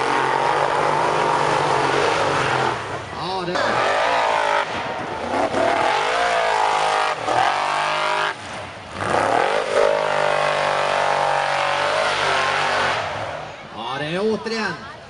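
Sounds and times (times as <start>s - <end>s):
buggy engine revving: 0.0s - 13.7s.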